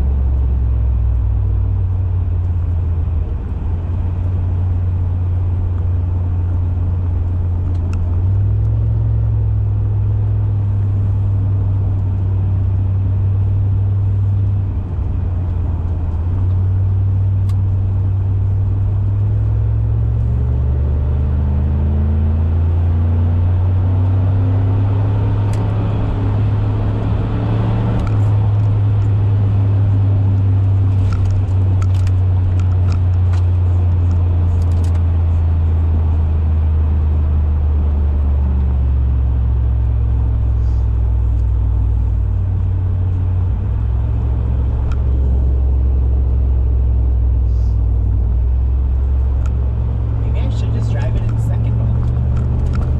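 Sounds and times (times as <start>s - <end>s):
car engine drone in cabin: 0.0s - 52.9s.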